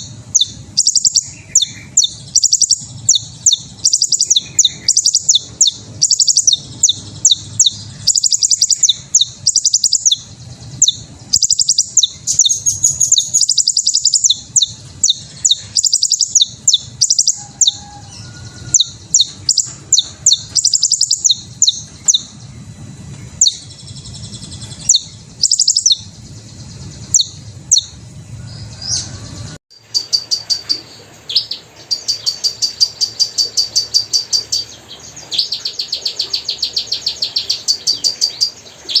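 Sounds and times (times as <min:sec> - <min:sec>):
hummingbird chirping: 0:00.0 - 0:39.0.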